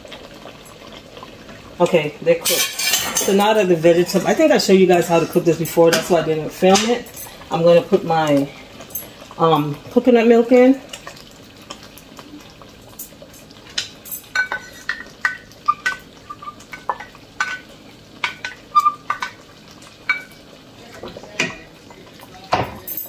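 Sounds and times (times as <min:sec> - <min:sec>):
soup simmering hiss: 0:00.0 - 0:22.5.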